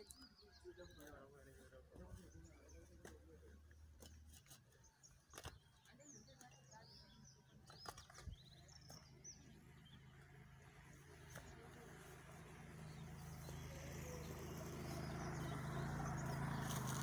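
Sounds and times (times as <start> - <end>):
quiet outdoor ambience: 0.0 - 17.0.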